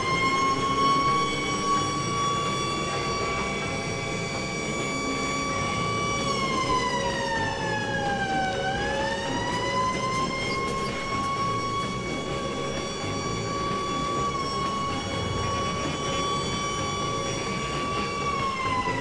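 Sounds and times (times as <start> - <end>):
emergency vehicle siren: 0.0 - 19.0.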